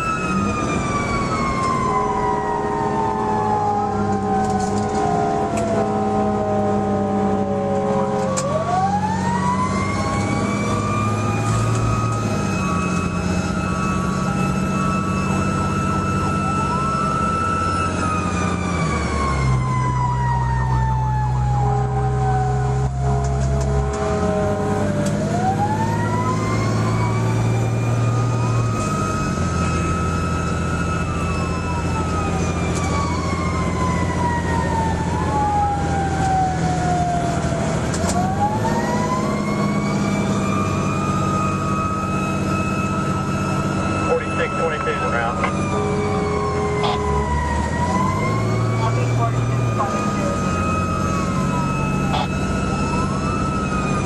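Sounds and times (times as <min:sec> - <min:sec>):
fire truck siren wailing: 0:00.0 - 0:54.0
truck engine drone: 0:00.0 - 0:54.0.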